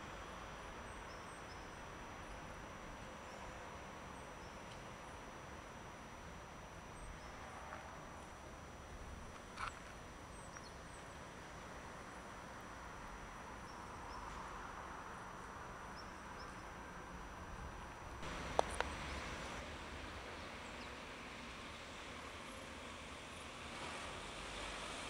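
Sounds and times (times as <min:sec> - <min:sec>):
distant traffic hum: 0:00.0 - 0:25.0.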